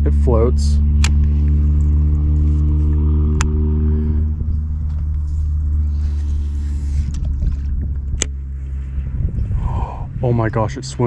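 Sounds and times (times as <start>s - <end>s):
steady low motor drone: 0.0s - 11.0s.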